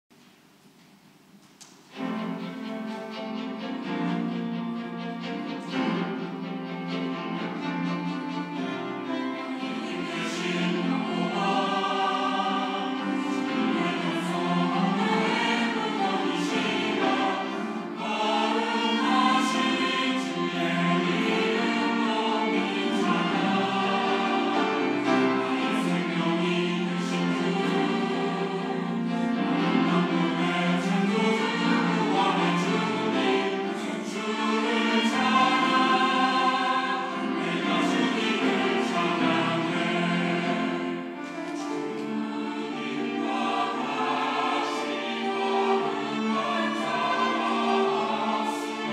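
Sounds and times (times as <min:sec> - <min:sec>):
mixed choir singing: 0:01.9 - 0:48.9.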